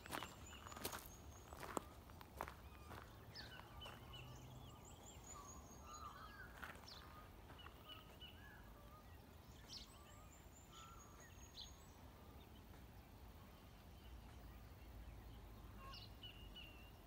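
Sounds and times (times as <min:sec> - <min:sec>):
songbirds chirping and whistling: 0:00.0 - 0:17.0.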